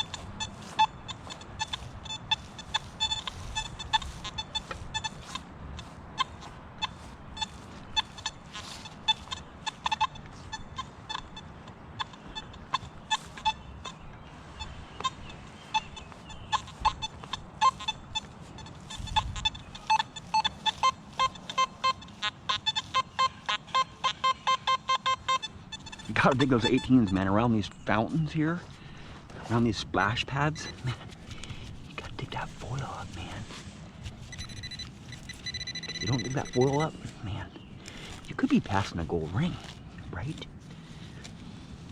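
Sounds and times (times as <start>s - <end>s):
metal detector chirps and beeps: 0.0s - 29.0s, 29.7s - 31.7s, 32.3s - 41.9s.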